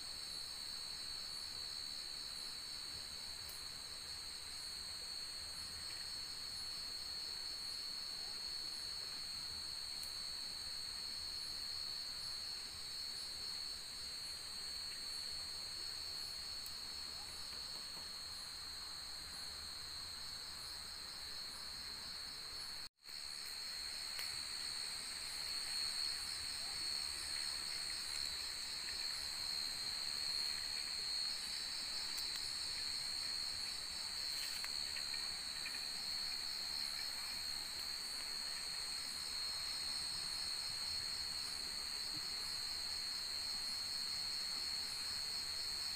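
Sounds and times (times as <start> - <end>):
insects trilling and buzzing: 0.0 - 45.9.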